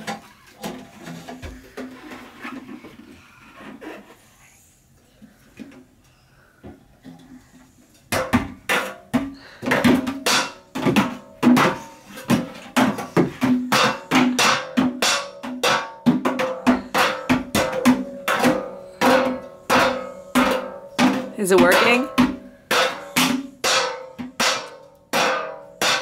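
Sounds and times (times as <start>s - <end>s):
lids and containers banging: 0.0s - 3.1s, 8.1s - 26.0s.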